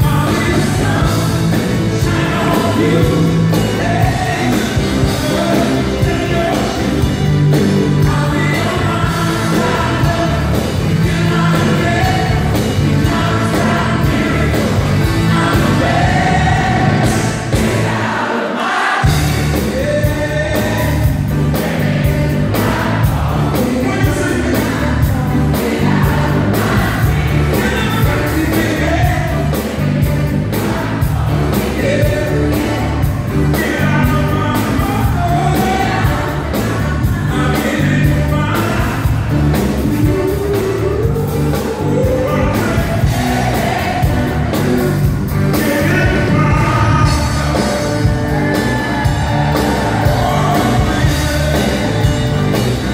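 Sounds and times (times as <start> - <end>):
backing singers: 0.0 - 52.9
lead singer: 0.0 - 52.9
live pop-soul band: 0.0 - 52.9.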